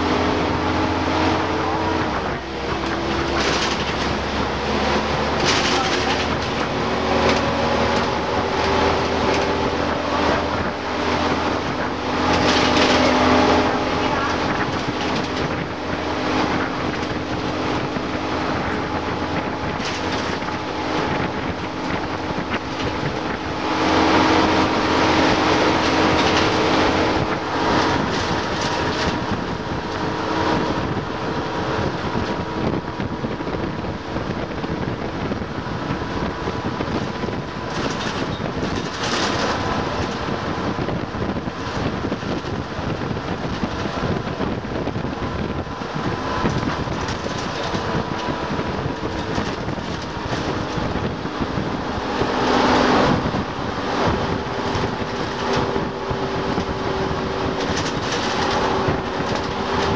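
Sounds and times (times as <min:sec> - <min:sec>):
bus engine running: 0:00.0 - 0:59.9
wind noise: 0:00.0 - 0:59.9.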